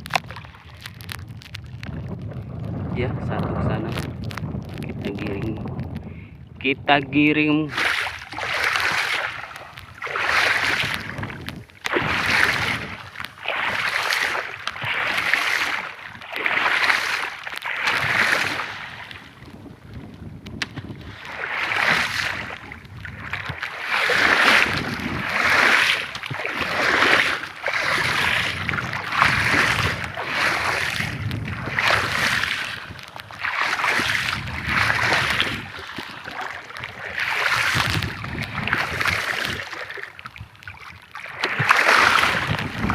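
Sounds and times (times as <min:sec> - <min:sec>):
paddle strokes splashing water: 0:00.0 - 0:06.0, 0:07.6 - 0:42.9
wind buffeting microphone: 0:00.0 - 0:42.9.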